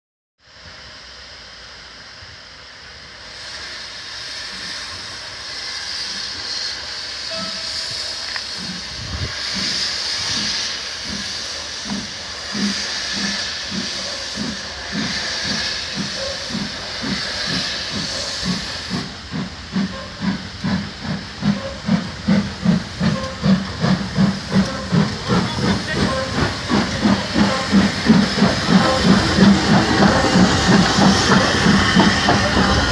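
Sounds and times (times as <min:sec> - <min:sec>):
steam hissing: 0:00.5 - 0:32.9
steam locomotive exhaust chuffs: 0:00.5 - 0:32.9.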